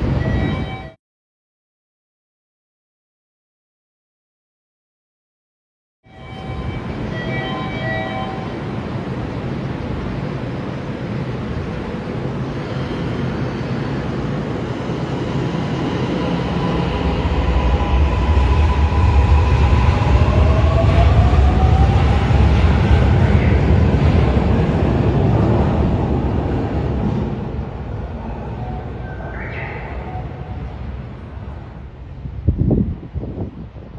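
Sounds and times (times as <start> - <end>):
train running rumble: 6.2 - 33.9.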